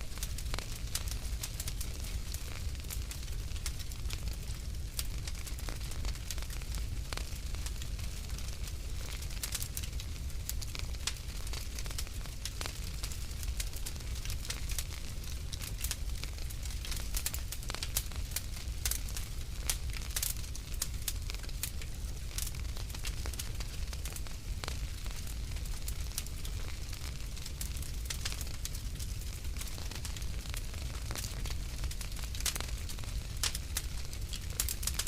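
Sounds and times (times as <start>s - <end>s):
low rumble of flames: 0.0s - 35.0s
fire pops and snaps: 0.1s - 35.0s.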